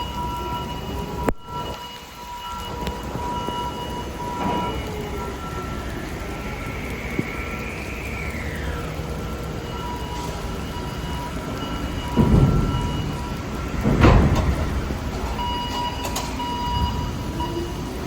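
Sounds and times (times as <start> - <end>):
high warning tones: 0.0 - 18.0
machinery noise: 0.0 - 18.0
rain: 0.0 - 18.0.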